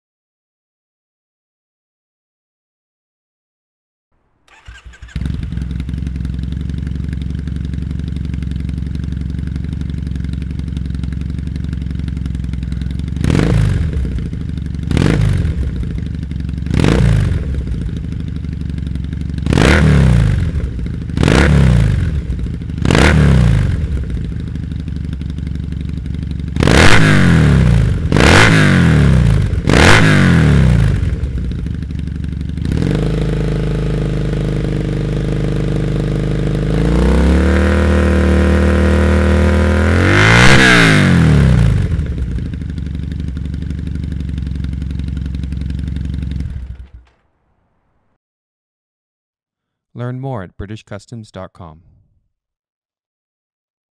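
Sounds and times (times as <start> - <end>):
motorcycle engine idling and revving: 4.2 - 47.9.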